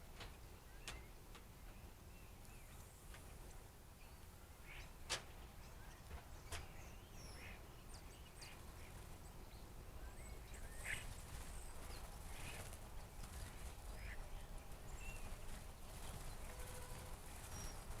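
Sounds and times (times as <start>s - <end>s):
blackbirds chirping: 0.0s - 18.0s.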